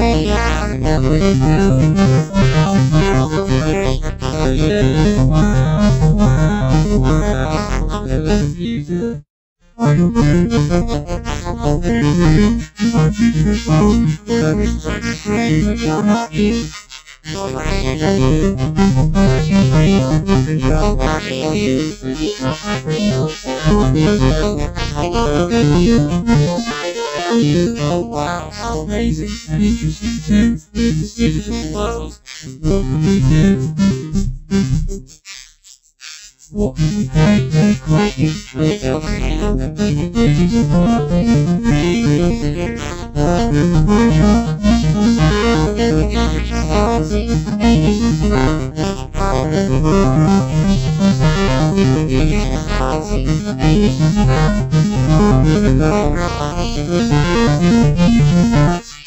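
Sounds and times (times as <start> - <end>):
electronic synthesizer music: 0.0 - 9.2, 9.8 - 35.2, 36.6 - 59.0.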